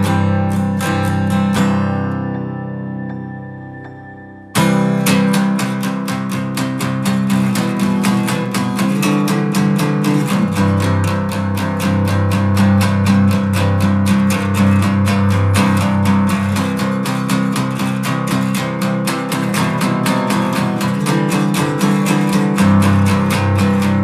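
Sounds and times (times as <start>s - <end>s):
guitar strummed fast: 0.0s - 24.0s.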